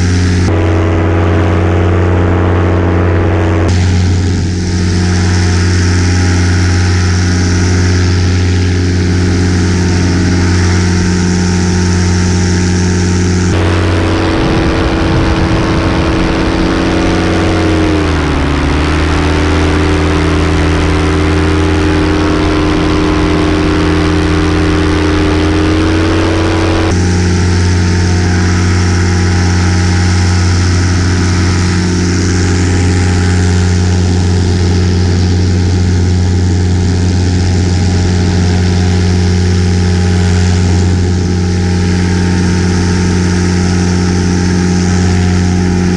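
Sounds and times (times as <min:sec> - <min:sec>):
paramotor engine drone: 0:00.0 - 0:45.9.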